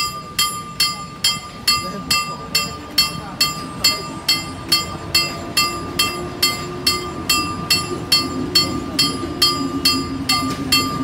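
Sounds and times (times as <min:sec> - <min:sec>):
railway crossing bell ringing: 0:00.0 - 0:11.0
train coaches rumbling past: 0:00.0 - 0:11.0.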